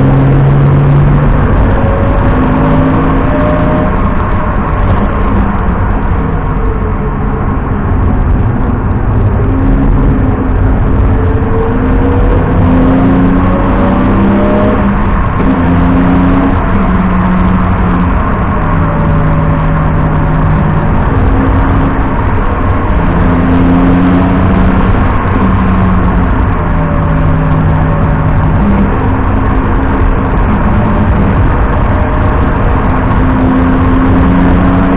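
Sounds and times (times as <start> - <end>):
car engine accelerating and shifting: 0.0 - 34.9
road noise: 0.0 - 34.9.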